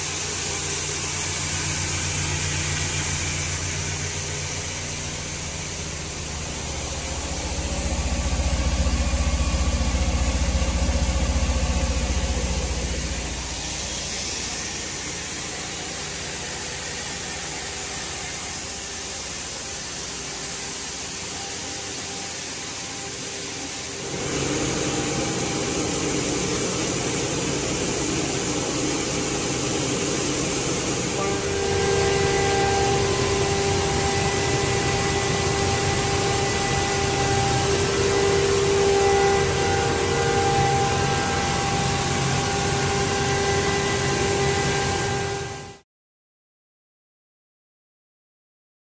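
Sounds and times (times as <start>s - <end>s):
machine humming tones: 0.0s - 45.8s
machinery noise: 0.0s - 45.8s.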